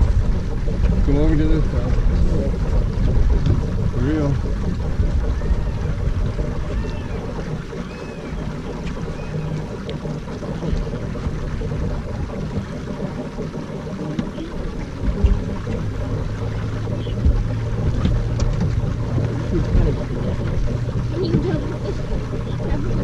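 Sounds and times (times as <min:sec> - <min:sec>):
low steady hum: 0:00.0 - 0:23.0
wind and water rumble: 0:00.0 - 0:23.0.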